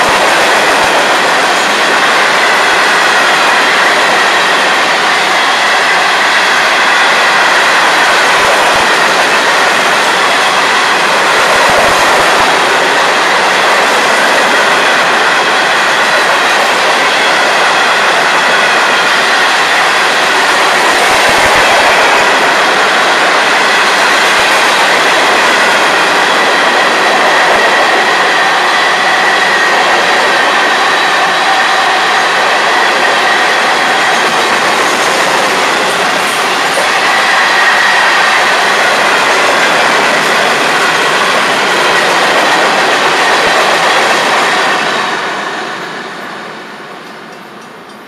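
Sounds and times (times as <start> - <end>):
freight train wheels rolling: 0.0 - 48.0.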